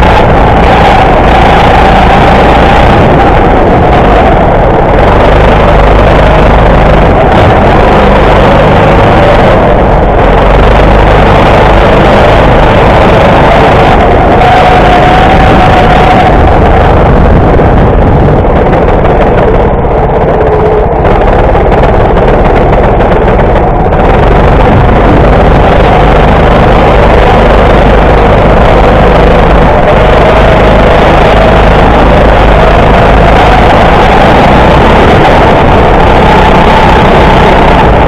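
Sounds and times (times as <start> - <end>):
go-kart motor at speed: 0.0 - 38.0.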